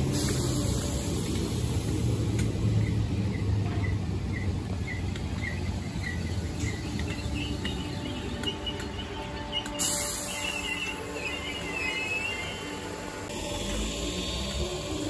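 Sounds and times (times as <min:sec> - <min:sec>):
electric train rumbling past: 0:00.0 - 0:15.0.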